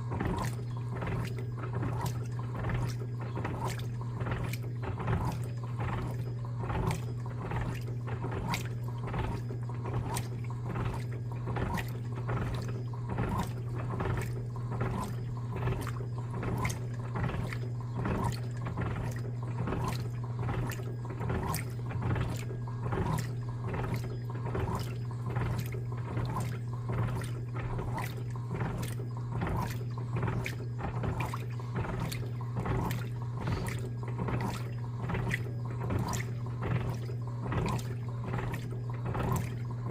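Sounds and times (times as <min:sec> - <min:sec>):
motor low hum: 0:00.0 - 0:39.9
water swishing in washing machine: 0:00.0 - 0:39.9.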